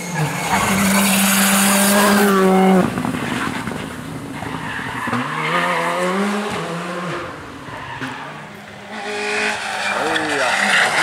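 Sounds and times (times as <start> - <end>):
rally car engine high revs: 0.0 - 11.0.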